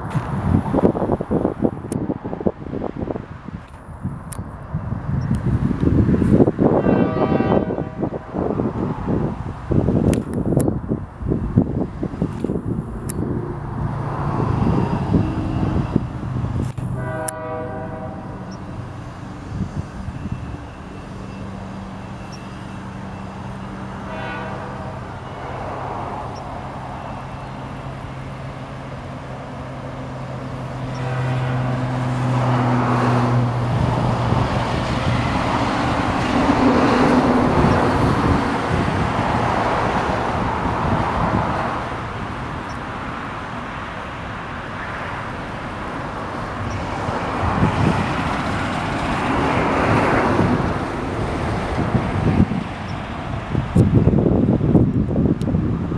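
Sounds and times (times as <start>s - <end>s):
locomotive low drone: 7.6s - 55.9s
train wheels on rails: 8.2s - 55.9s.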